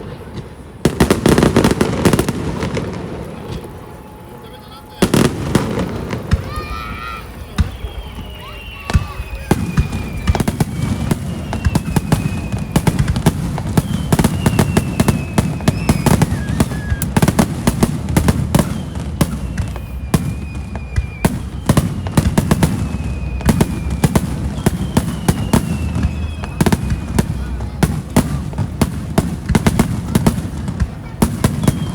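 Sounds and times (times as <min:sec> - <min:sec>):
fireworks cracking and banging: 0:00.0 - 0:31.9
whistling fireworks: 0:00.0 - 0:31.9.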